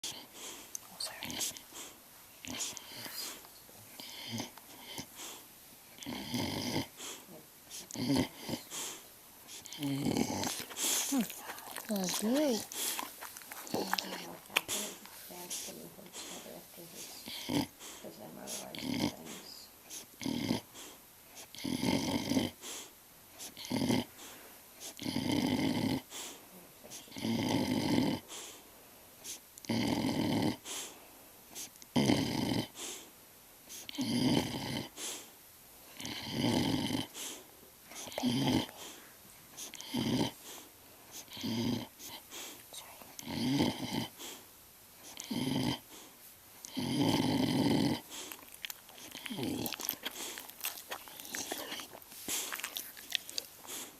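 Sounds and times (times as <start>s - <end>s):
animal snoring: 0.0s - 3.4s, 4.0s - 5.4s, 6.0s - 28.6s, 29.3s - 31.0s, 31.6s - 33.1s, 33.7s - 35.3s, 35.9s - 39.0s, 39.6s - 42.6s, 43.2s - 44.4s, 45.0s - 53.9s.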